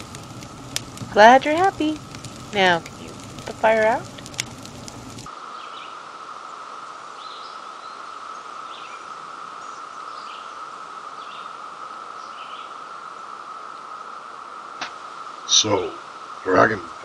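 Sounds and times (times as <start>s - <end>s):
fire crackling: 0.0s - 5.5s, 8.0s - 17.0s
steady outdoor hiss: 0.0s - 17.0s.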